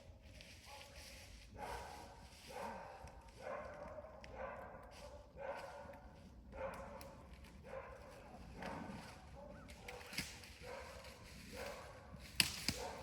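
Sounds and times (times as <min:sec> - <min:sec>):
faint dog barking: 0:00.6 - 0:13.0.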